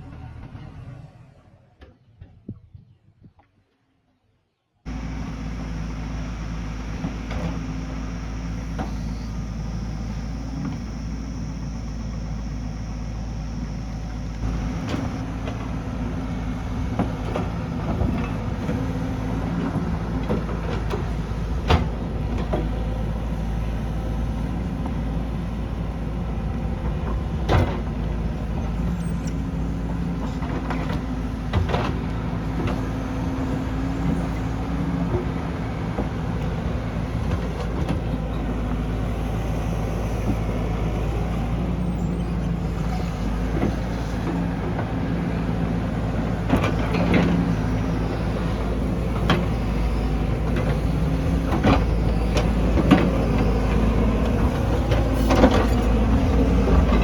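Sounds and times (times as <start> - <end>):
heavy diesel engine running: 0.0 - 1.6, 4.9 - 57.0.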